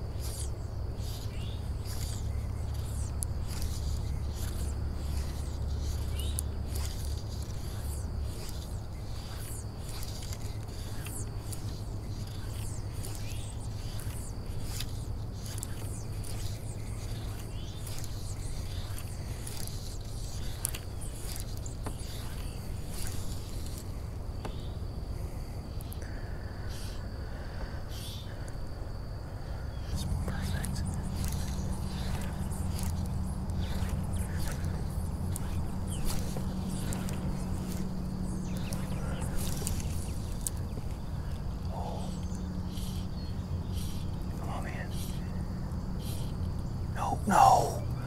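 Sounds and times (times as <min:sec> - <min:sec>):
fly line scraping: 0:00.0 - 0:24.8, 0:29.9 - 0:45.2
high insect buzz: 0:00.0 - 0:48.0
bird chirps and clicks: 0:00.2 - 0:23.8, 0:29.8 - 0:45.3.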